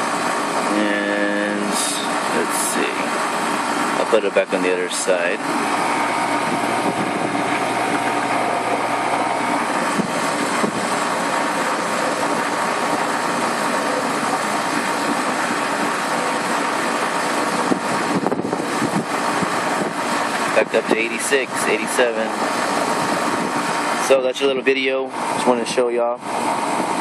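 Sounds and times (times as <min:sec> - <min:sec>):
air conditioner running: 0:00.0 - 0:27.0.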